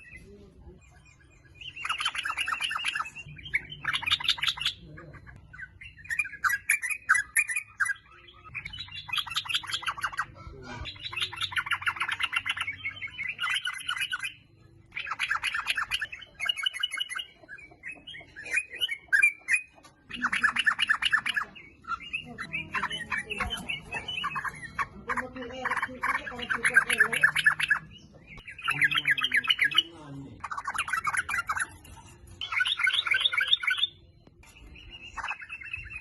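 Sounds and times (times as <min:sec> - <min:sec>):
bird chattering song: 0:00.0 - 0:36.0.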